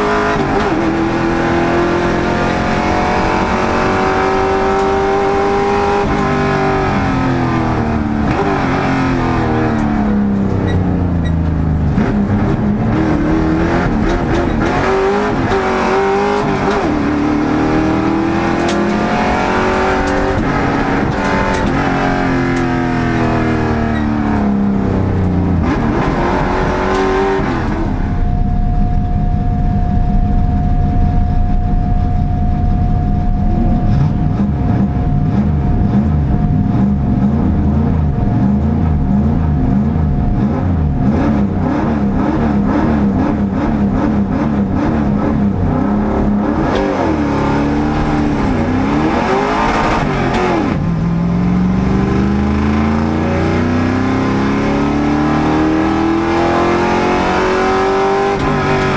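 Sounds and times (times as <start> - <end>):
race car engine revving: 0.0 - 58.9
steady low rumble with whine: 4.8 - 53.8.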